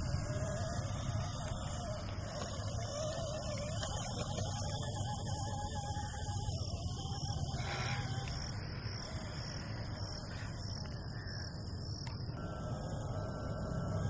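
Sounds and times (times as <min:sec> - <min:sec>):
constant low rumble: 0:00.0 - 0:14.0
crickets chirring: 0:00.0 - 0:14.0.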